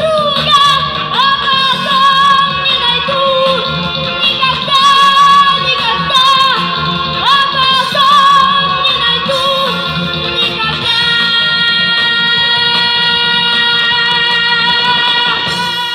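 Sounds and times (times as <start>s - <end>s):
girl singing into a microphone: 0.0s - 15.9s
instrumental backing music: 0.0s - 15.9s.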